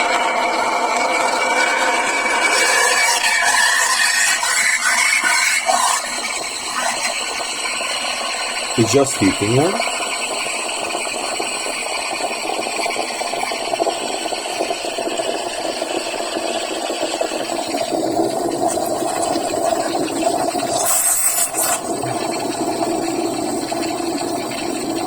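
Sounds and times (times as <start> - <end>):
steam wand hissing into milk: 0.0 - 25.0.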